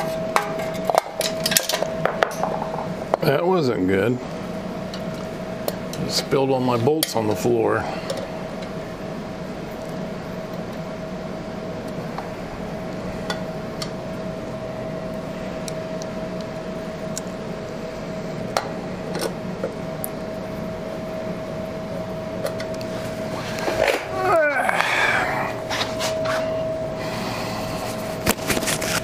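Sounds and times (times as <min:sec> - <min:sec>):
machine hum with whine: 0:00.0 - 0:29.0.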